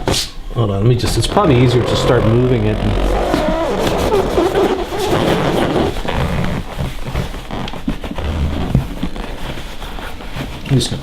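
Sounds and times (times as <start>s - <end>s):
leather creaking squeak: 1.2s - 11.0s.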